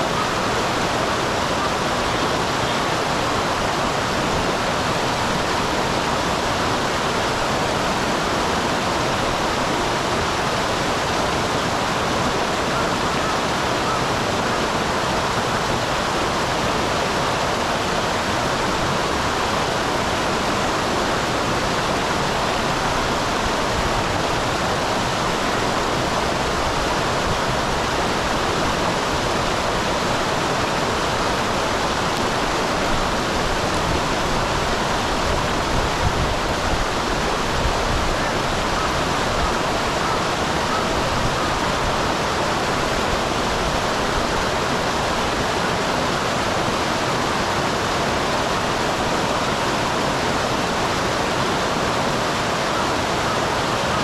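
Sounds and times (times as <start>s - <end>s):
water rushing over waterfall: 0.0s - 54.0s.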